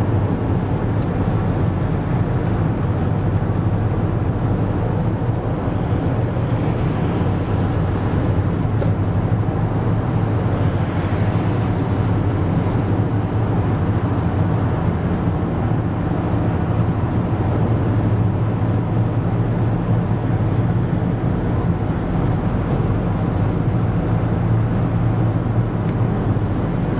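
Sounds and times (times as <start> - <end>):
car road and engine drone: 0.0 - 26.9.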